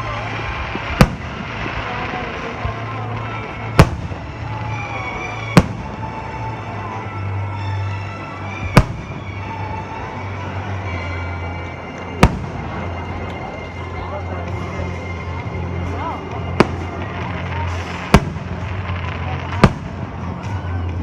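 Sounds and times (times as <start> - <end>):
fireworks bangs: 0.0 - 21.0
music playing: 0.0 - 21.0.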